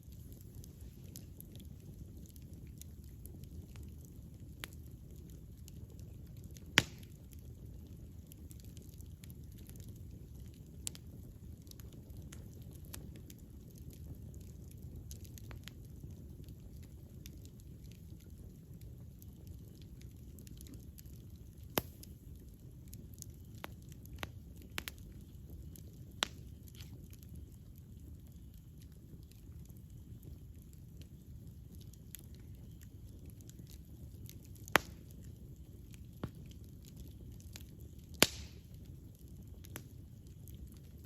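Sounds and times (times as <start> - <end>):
campfire flame rumble: 0.0 - 41.0
fire crackles and pops: 0.0 - 41.0.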